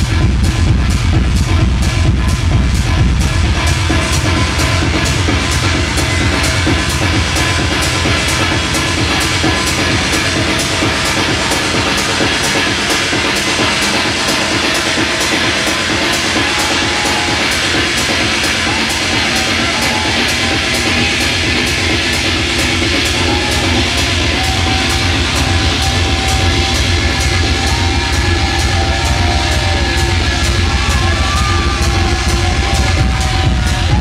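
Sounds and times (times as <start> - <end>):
heavy bass: 0.0 - 34.0
techno music over club sound system: 0.0 - 34.0.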